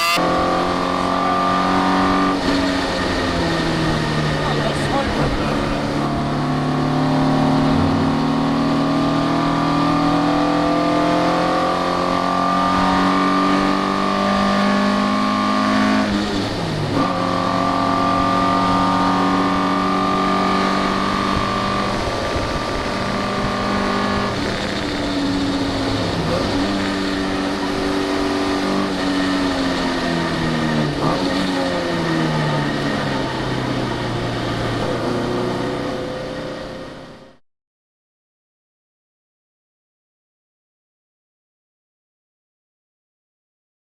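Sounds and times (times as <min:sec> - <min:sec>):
race car engine running hard: 0:00.2 - 0:37.3.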